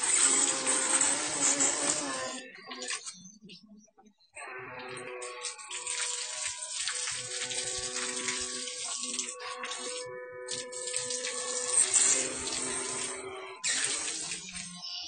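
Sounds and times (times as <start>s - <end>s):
water pouring into plastic tub: 0.0s - 3.1s, 4.7s - 14.8s.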